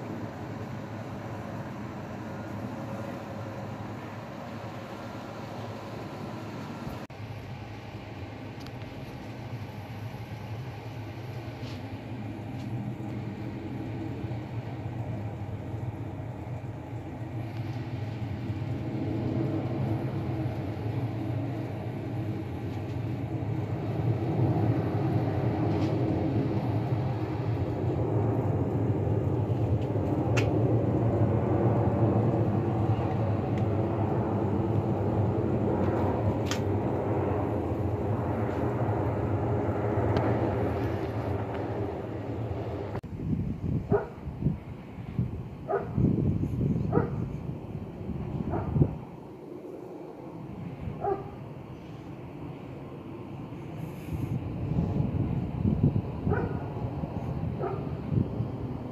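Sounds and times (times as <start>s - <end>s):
jet airliner engine rumble: 0.0s - 58.9s.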